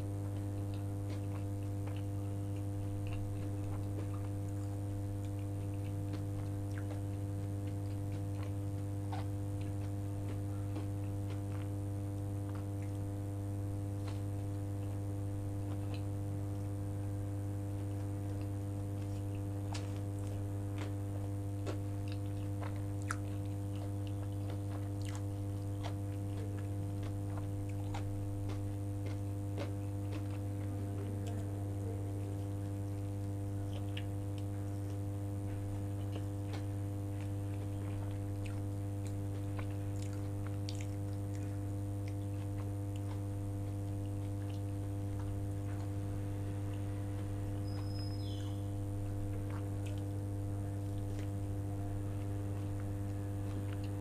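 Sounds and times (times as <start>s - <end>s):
chewing soft bun: 0.0s - 54.0s
loud steady low hum: 0.0s - 54.0s.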